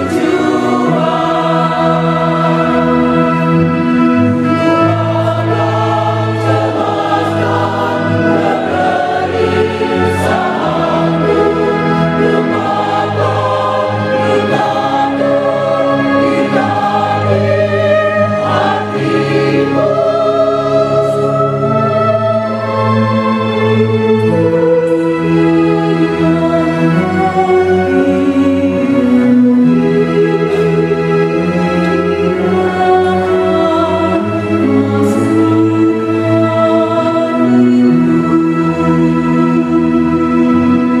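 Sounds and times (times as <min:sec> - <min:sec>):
choir singing a hymn: 0:00.0 - 0:41.0
electronic organ chords: 0:00.0 - 0:41.0.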